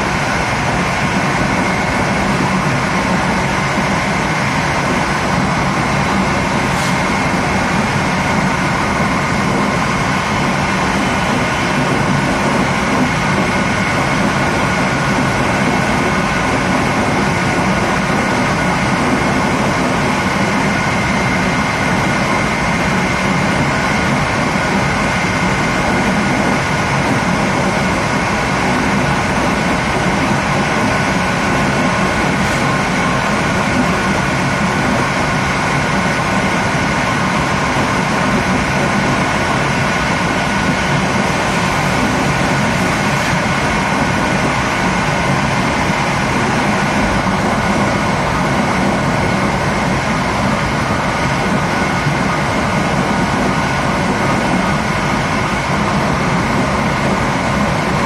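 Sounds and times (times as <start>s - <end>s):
train running noise: 0.0s - 58.0s.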